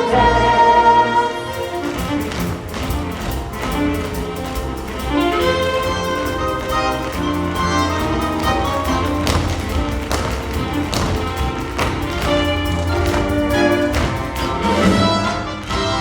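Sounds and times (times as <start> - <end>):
orchestra playing: 0.0 - 16.0.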